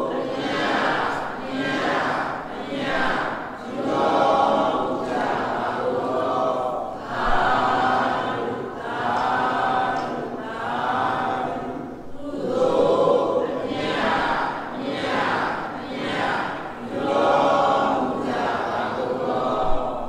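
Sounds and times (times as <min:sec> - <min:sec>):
group chanting in unison: 0:00.0 - 0:20.0.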